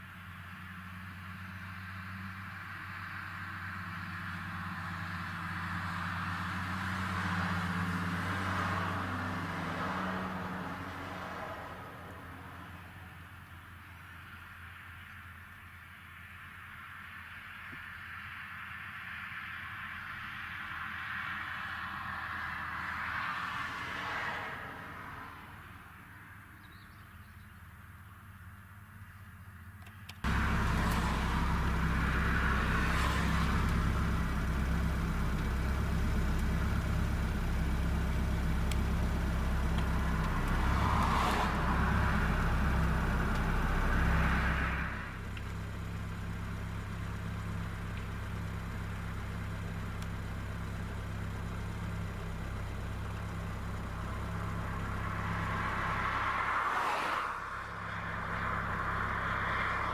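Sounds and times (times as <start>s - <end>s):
low engine hum: 0.0s - 16.6s, 21.2s - 59.9s
vehicles passing by: 0.0s - 59.9s.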